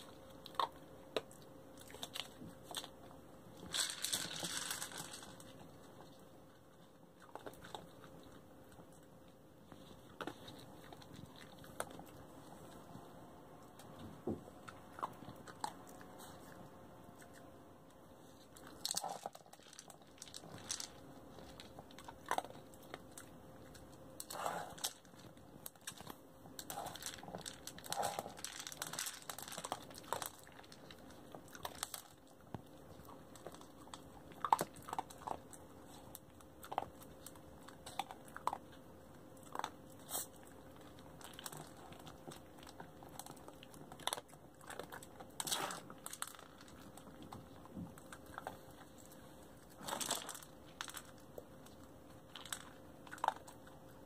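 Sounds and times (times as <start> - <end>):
dog crunching kibble: 0.0 - 17.5, 18.2 - 54.0.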